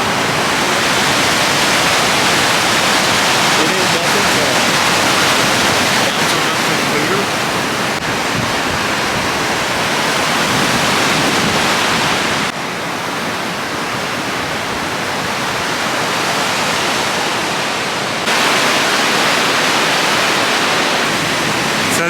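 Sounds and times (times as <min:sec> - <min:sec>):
rapids rushing water: 0:00.0 - 0:22.0.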